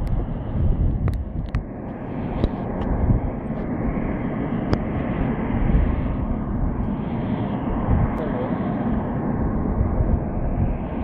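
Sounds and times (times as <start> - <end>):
jet aircraft rumble: 0.0 - 11.0.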